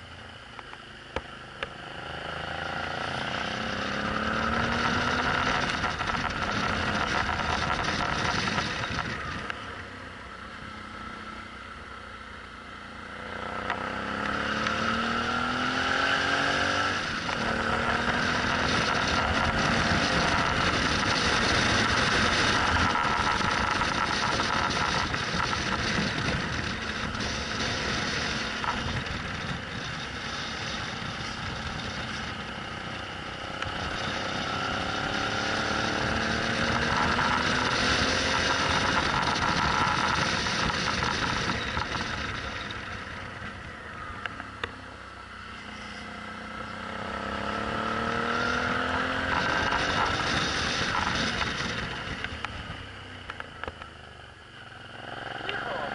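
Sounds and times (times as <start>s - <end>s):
motorcycle engine accelerating: 0.0s - 55.9s
wind and road rush: 0.0s - 55.9s.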